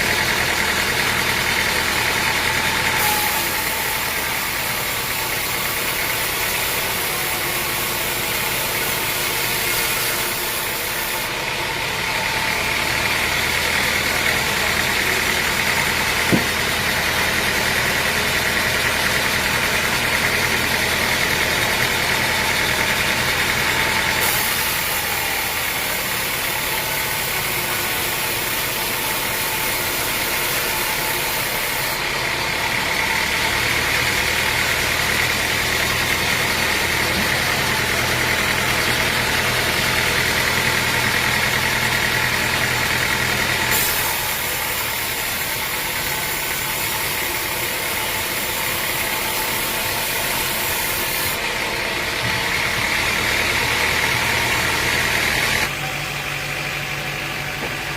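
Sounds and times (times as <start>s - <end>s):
sawmill machinery droning: 0.0s - 57.9s.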